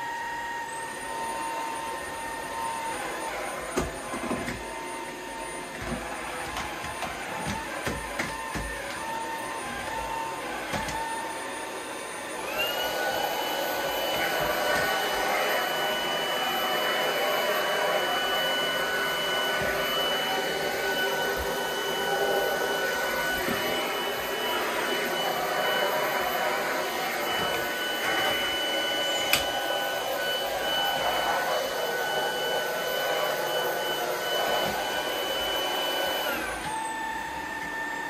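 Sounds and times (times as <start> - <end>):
stick vacuum motor whining: 0.0 - 38.0.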